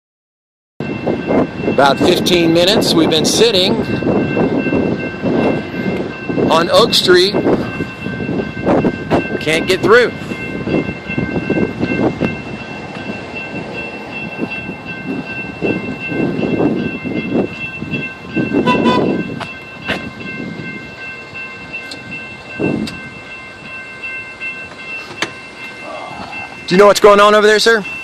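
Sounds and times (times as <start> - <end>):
crossing bell ringing: 0.8 - 28.0
train cars rumbling and clanking: 0.8 - 28.0.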